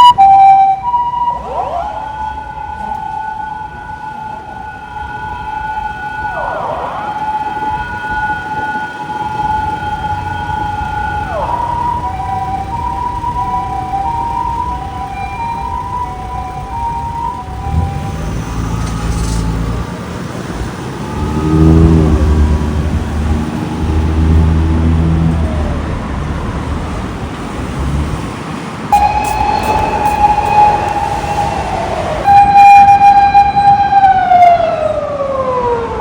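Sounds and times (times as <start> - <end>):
emergency vehicle siren: 0.0 - 36.0
vehicle engine and road noise: 6.4 - 36.0.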